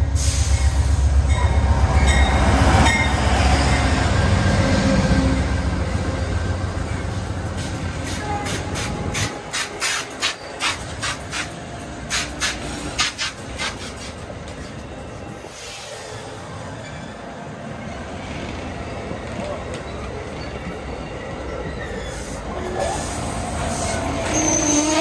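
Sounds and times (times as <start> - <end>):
rumble of wheels on rail: 0.0 - 25.0.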